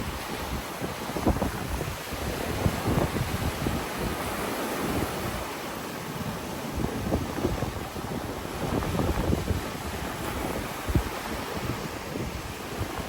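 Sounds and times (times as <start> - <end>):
surf breaking on beach: 0.0 - 13.0
wind gusting against microphone: 0.0 - 13.0.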